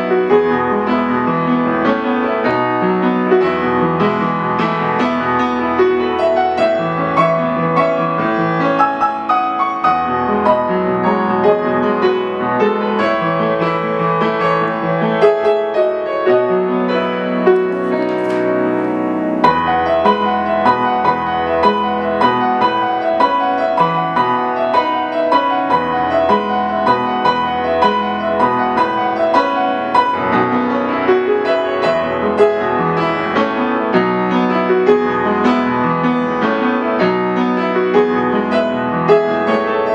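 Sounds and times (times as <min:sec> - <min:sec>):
solo piano playing: 0:00.0 - 0:39.9.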